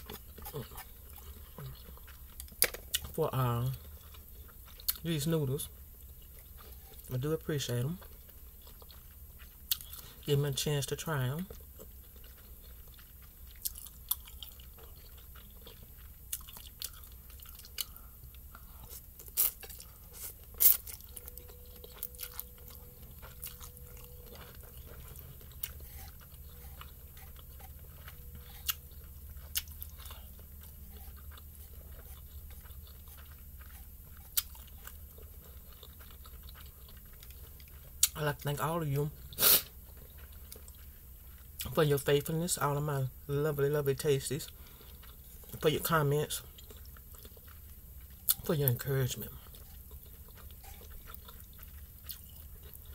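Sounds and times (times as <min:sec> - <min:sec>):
chewing and wet mouth sounds: 0:00.0 - 0:52.9
low steady hum: 0:00.0 - 0:52.9.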